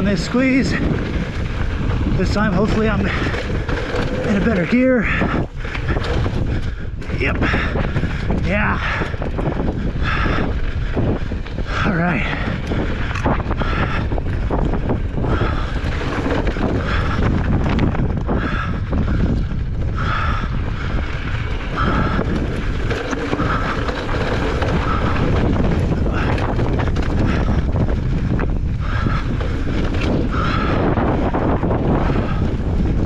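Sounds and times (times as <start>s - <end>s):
bike clattering on rough trail: 0.0s - 33.0s
wind buffeting microphone: 0.0s - 33.0s.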